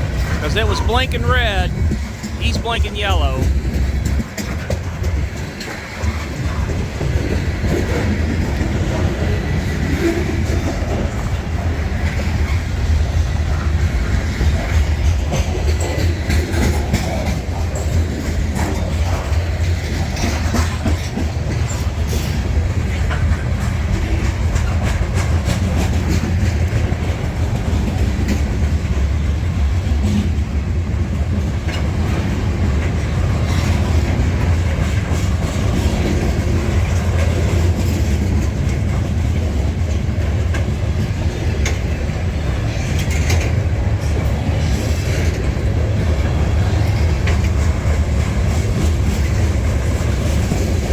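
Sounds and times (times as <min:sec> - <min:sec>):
low train rumble: 0:00.0 - 0:50.9.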